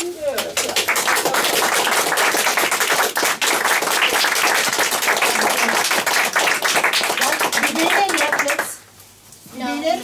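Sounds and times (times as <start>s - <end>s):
people applauding: 0.0s - 8.9s.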